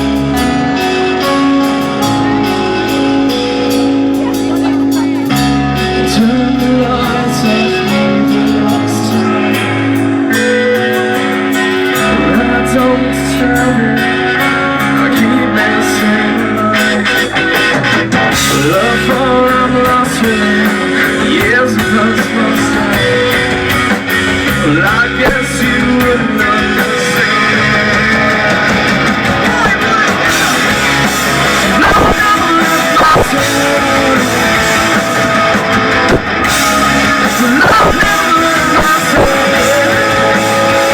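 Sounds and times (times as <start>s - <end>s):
bass and drums: 0.0s - 40.9s
distorted guitars: 0.0s - 40.9s.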